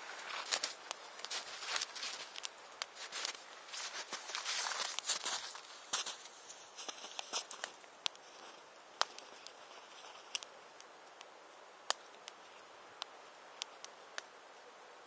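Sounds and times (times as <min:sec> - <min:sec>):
wood fire crackling: 0:00.0 - 0:14.5
faint steady hiss: 0:00.0 - 0:15.0.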